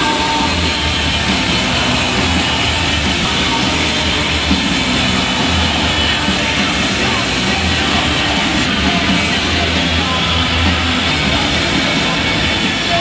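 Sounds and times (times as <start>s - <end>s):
loud music over pa: 0.0s - 13.0s
motocross bike engines: 0.0s - 13.0s.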